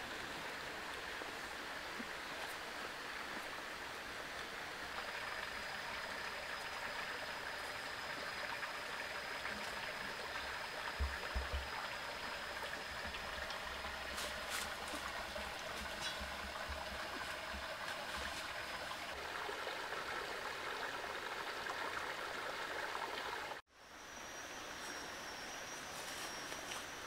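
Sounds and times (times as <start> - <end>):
stream running over rocks: 0.0 - 23.6.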